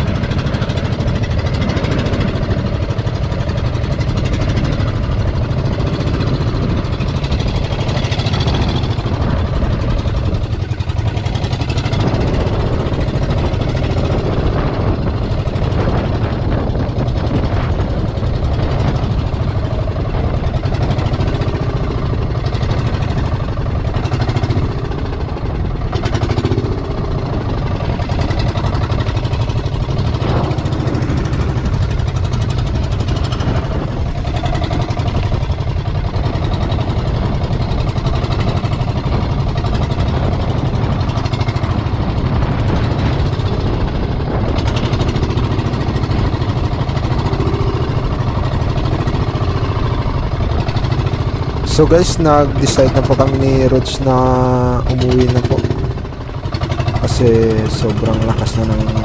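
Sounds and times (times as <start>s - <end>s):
boat engine running: 0.0s - 59.0s
choppy sea water: 0.0s - 59.0s
wind on microphone: 0.0s - 59.0s.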